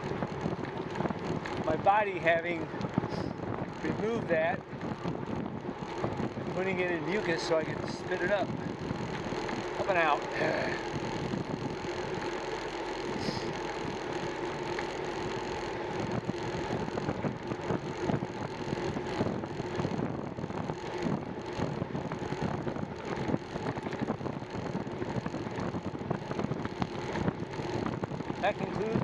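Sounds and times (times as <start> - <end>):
bicycle riding hum: 0.0 - 29.0
small rattles and knocks: 0.0 - 29.0
wind buffeting microphone: 0.0 - 29.0.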